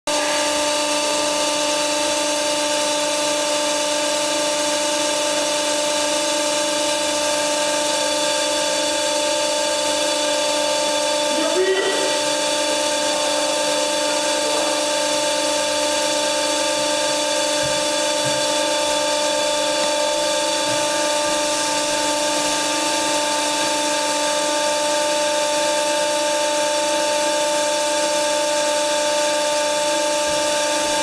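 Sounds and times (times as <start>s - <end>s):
steady machine whine: 0.1s - 31.0s.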